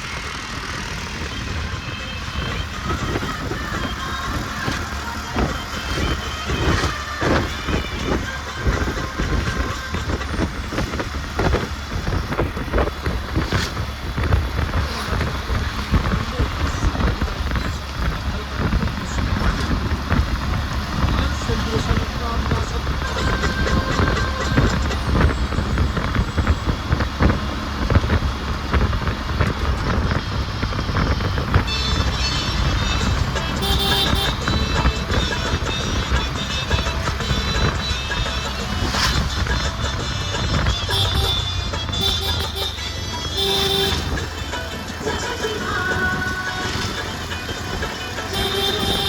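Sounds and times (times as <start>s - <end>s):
low rumble of vehicles: 0.0s - 49.0s.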